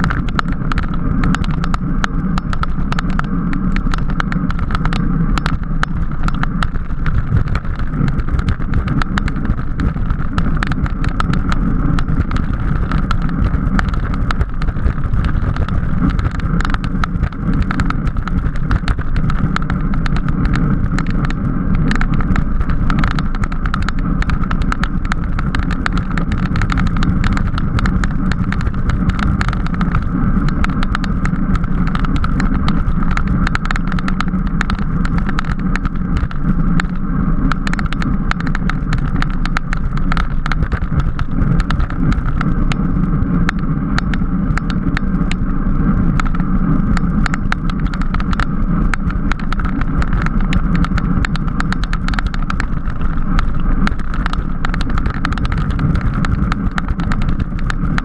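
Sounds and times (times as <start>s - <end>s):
bike rattling clicks: 0.0s - 58.0s
wind on microphone: 0.0s - 58.0s.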